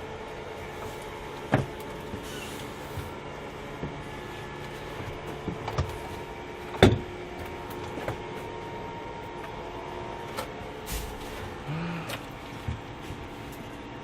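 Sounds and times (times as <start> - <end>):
knocks and clatter inside bus: 0.0 - 8.5, 10.2 - 13.8
steady low hum: 0.0 - 14.0.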